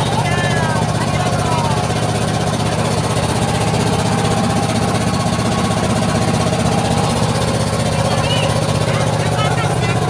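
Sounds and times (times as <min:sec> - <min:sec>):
boat diesel engine chugging: 0:00.0 - 0:10.0.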